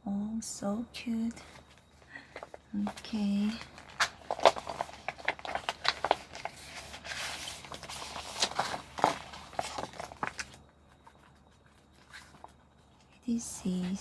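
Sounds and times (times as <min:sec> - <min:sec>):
packaging and paper crinkling: 0:01.4 - 0:14.0.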